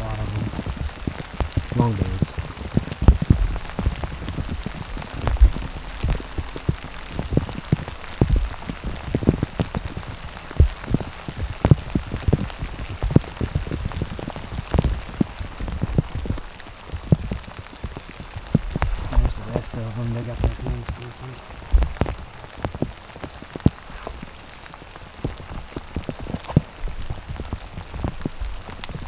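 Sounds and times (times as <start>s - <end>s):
rain patter: 0.0s - 29.0s
raindrop taps: 0.0s - 29.0s.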